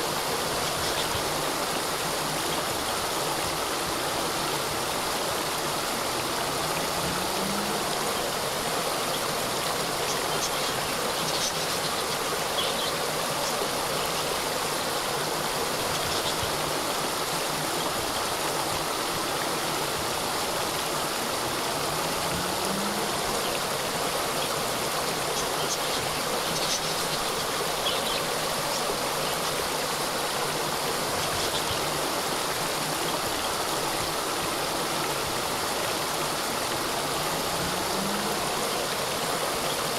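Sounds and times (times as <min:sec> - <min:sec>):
waterfall cascading and splashing: 0:00.0 - 0:39.9.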